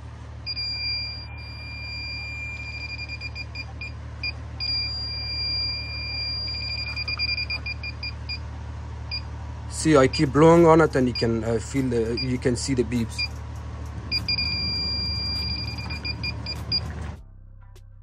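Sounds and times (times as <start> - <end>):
leak detector beeping: 0.4 - 8.4, 9.1 - 13.4, 14.1 - 17.1.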